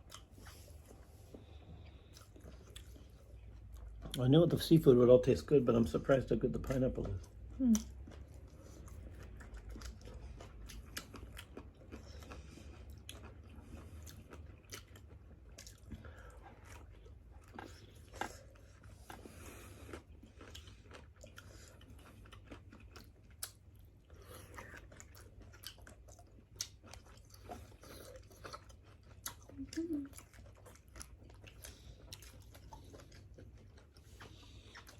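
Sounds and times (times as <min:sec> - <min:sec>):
people chewing and biting: 0:00.0 - 0:34.9.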